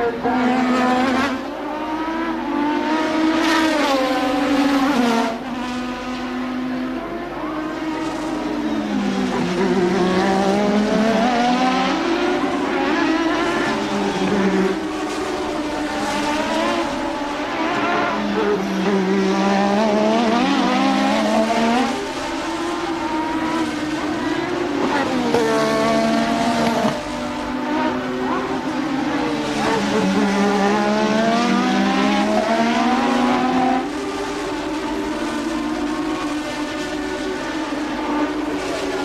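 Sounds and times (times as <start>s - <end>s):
racing car engine revving: 0.0s - 39.0s.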